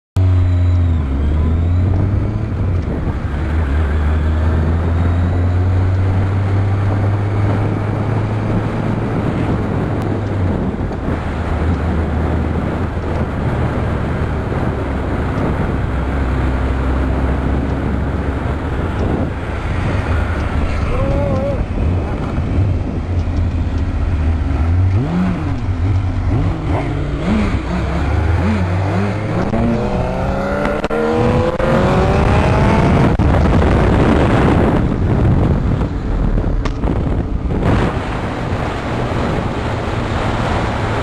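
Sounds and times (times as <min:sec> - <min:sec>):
wind rushing over microphone: 0:00.2 - 0:41.0.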